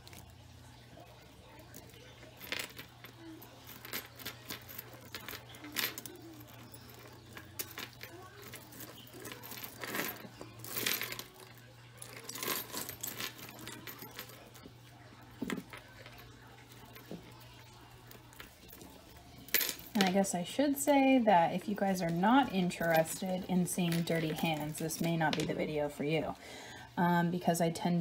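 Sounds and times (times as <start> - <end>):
jewelry jangling and clinking: 0.0 - 26.4.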